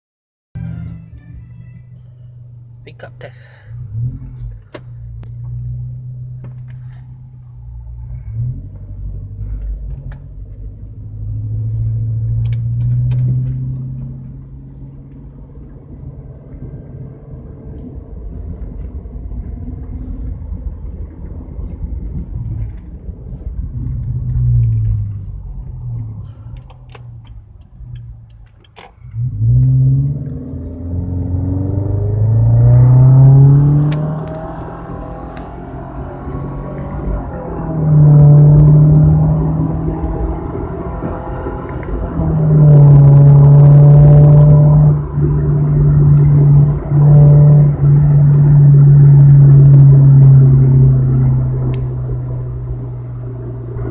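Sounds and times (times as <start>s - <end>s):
car engine exhaust rumbling: 0.6s - 53.9s.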